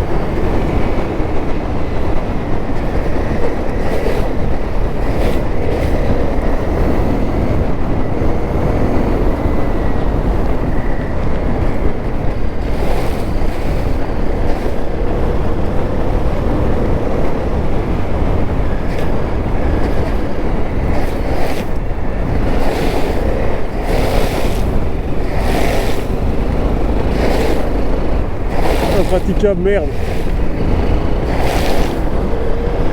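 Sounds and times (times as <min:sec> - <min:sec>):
motorcycle engine running: 0:00.0 - 0:32.9
wind rushing over microphone: 0:00.0 - 0:32.9.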